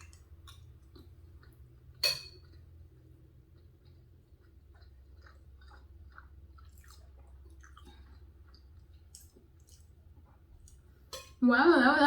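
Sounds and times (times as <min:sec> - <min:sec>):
wet chewing: 0:00.0 - 0:11.0.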